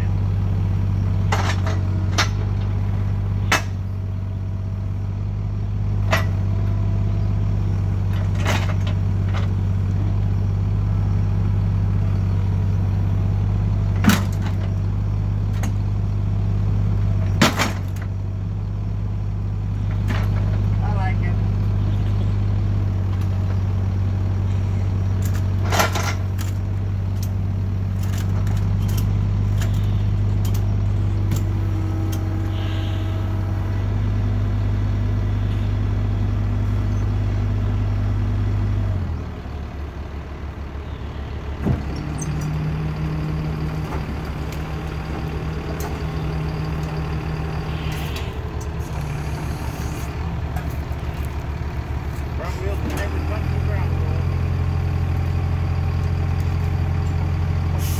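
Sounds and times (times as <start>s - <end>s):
backhoe engine running: 0.0s - 57.9s.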